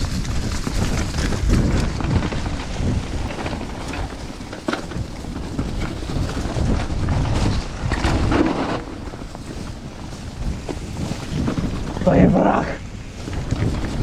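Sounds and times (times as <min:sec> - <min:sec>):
bike tyres rumbling on trail: 0:00.0 - 0:14.0
wind buffeting microphone: 0:00.0 - 0:14.0.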